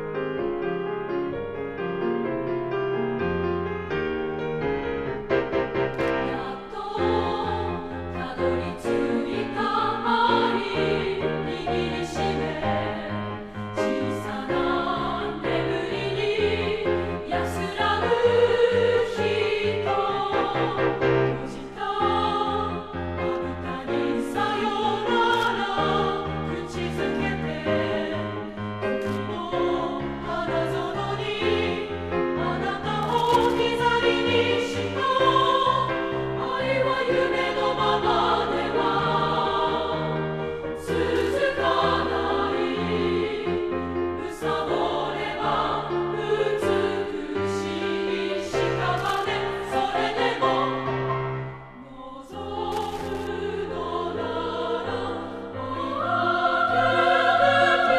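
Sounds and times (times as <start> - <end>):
women's choir singing: 6.0 - 57.9.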